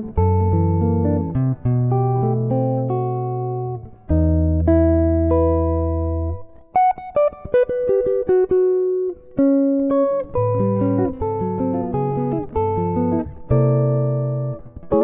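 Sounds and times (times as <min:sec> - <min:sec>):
solo jazz guitar: 0:00.0 - 0:15.0.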